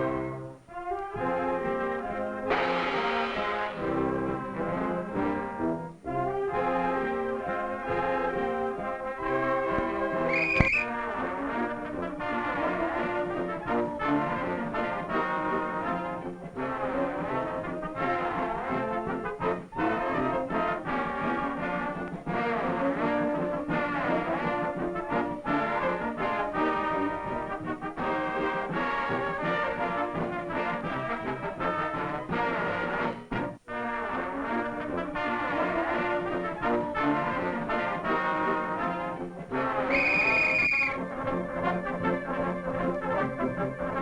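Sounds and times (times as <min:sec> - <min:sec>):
brass band playing: 0:00.0 - 0:44.0.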